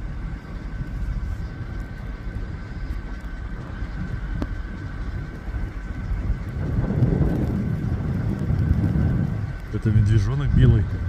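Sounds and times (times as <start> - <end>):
faint steady whine: 0.0 - 11.0
vehicle idling rumble: 0.0 - 11.0.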